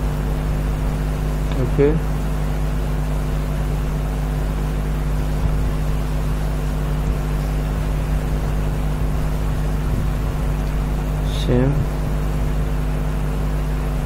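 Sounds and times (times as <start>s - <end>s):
mains hum with hiss: 0.0s - 14.0s.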